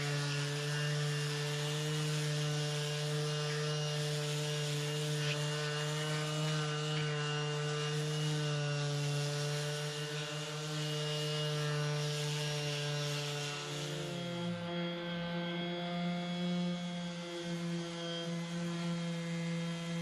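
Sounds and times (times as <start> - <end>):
power sander running: 0.0 - 20.0.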